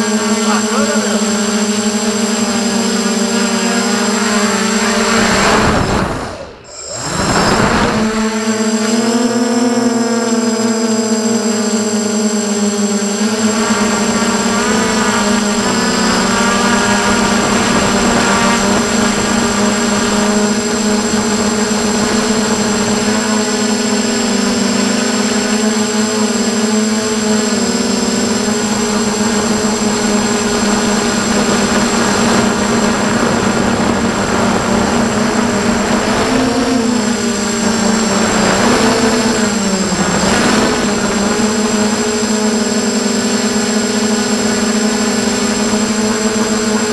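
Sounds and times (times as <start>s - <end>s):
drone propellers buzzing: 0.0s - 46.9s.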